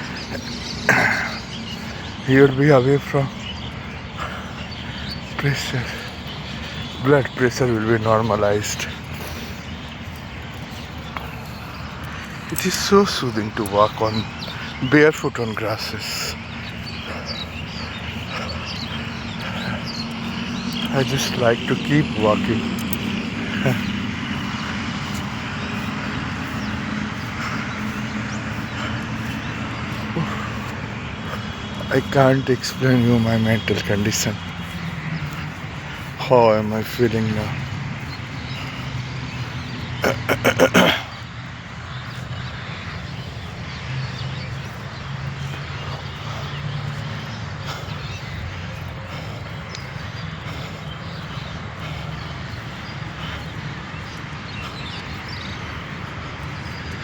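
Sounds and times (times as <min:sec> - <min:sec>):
distant engine drone: 0:00.0 - 0:57.0
outdoor background noise: 0:00.0 - 0:57.0.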